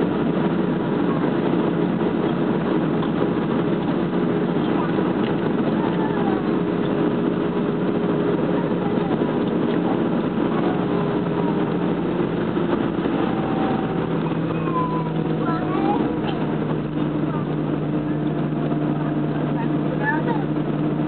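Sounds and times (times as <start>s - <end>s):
jet engines humming: 0.0s - 21.0s.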